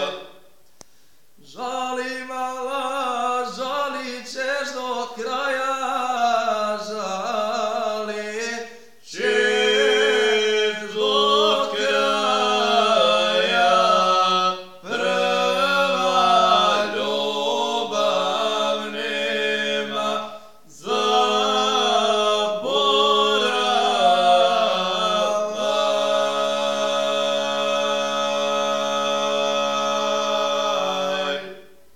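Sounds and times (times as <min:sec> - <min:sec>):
men singing folk song unaccompanied: 0:01.4 - 0:31.8.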